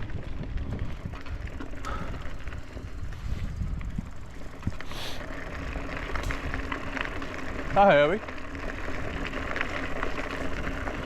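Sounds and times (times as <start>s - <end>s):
bike drivetrain rattling and clicking: 0.0s - 11.0s
low rumble of riding: 0.0s - 11.0s.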